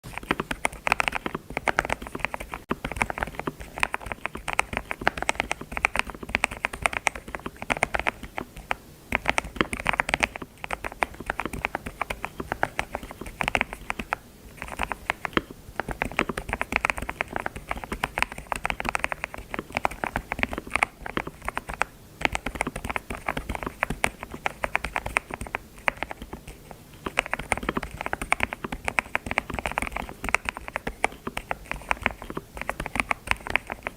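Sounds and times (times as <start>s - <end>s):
keyboard typing: 0.0s - 33.9s.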